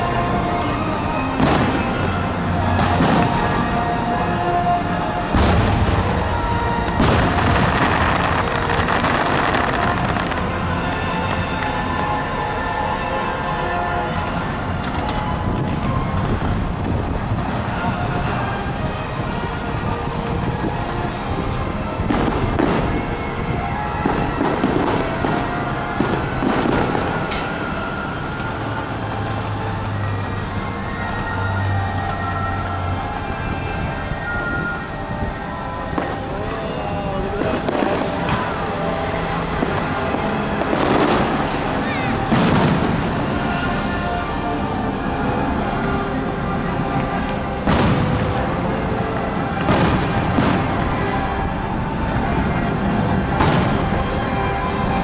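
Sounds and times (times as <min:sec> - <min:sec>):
fireworks booming: 0:00.0 - 0:12.9, 0:19.6 - 0:30.8, 0:32.0 - 0:44.0, 0:45.1 - 0:55.0
continuous rumble: 0:00.0 - 0:55.0
music: 0:00.0 - 0:55.0.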